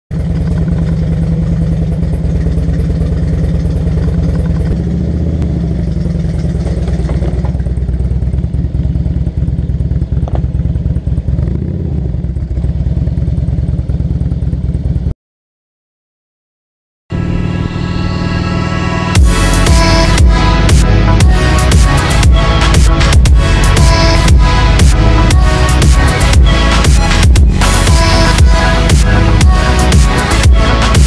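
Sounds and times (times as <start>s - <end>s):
motorcycle engine running: 0.1s - 15.1s, 17.1s - 31.0s.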